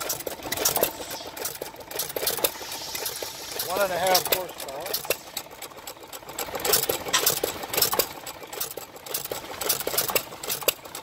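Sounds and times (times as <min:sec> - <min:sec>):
stationary gas engine clattering: 0:00.0 - 0:11.0.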